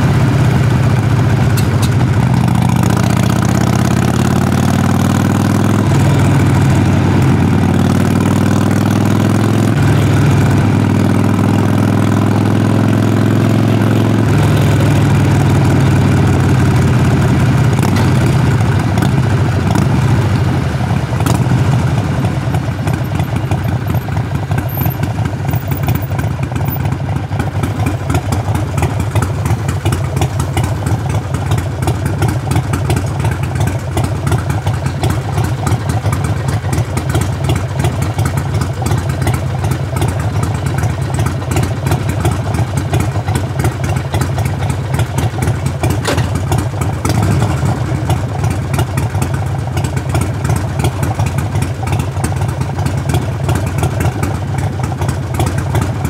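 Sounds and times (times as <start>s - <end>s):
motorcycle exhaust running: 0.0s - 56.0s.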